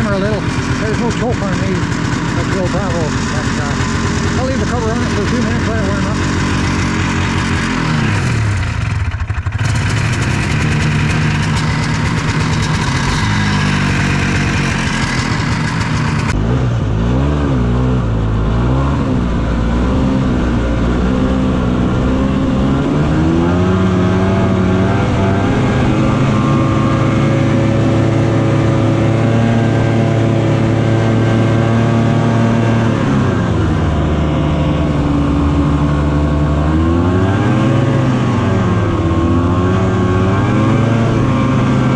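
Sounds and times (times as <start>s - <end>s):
snowmobile engine revving: 0.0s - 41.9s.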